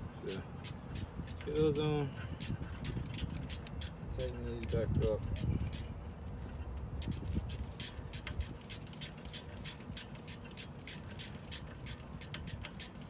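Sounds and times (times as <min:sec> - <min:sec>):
ratchet wrench clicking: 0:00.3 - 0:05.9, 0:07.0 - 0:13.0.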